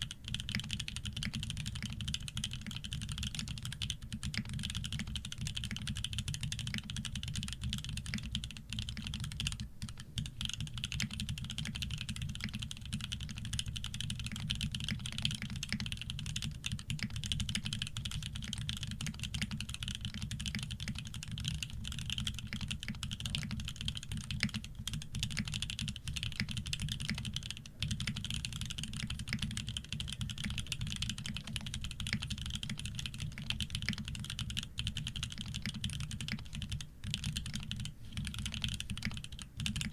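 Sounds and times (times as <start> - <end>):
fast keyboard typing clatter: 0.0 - 39.9.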